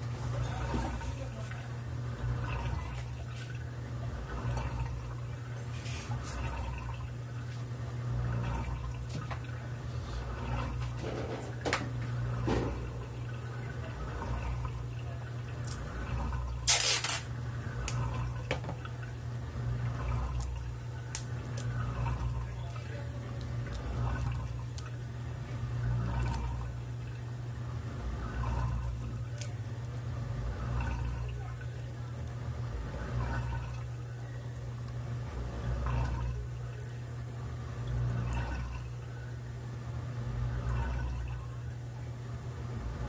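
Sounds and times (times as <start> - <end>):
steady low hum: 0.0 - 43.0
water running into washing machine: 0.0 - 43.0.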